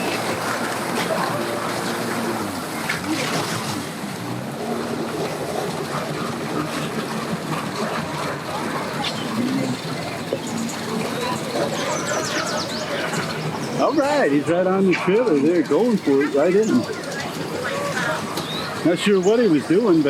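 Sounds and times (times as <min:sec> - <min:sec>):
boat engine humming: 0:00.0 - 0:14.8, 0:15.4 - 0:20.0
churning water: 0:00.0 - 0:20.0.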